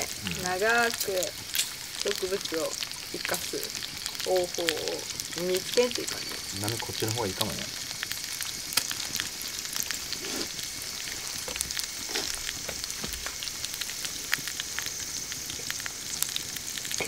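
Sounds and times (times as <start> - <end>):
oil popping and spitting: 0.0 - 17.0
peppers sizzling in a pan: 0.0 - 17.0.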